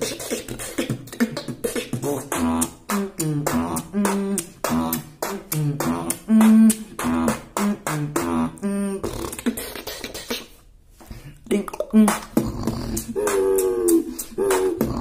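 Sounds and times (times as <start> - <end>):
beatboxing percussion hits: 0.0 - 10.6, 11.4 - 15.0
hissing mouth noises: 0.0 - 15.0.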